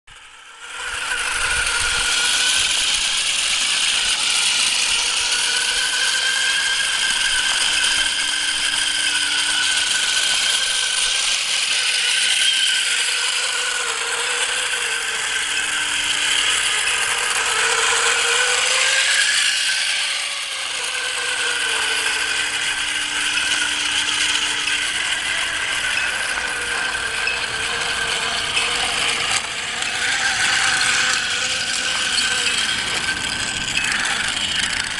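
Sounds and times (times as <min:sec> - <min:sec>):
robot motors whirring: 0:00.1 - 0:34.9.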